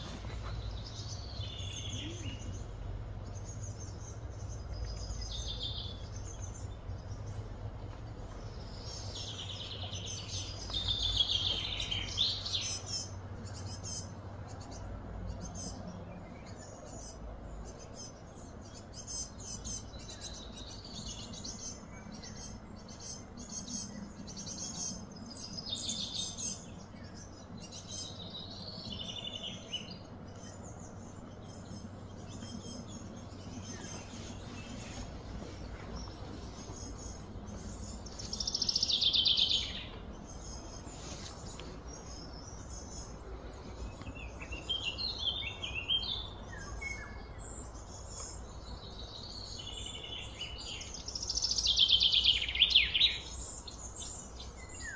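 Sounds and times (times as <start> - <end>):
birds chirping and calling: 0.0 - 54.9.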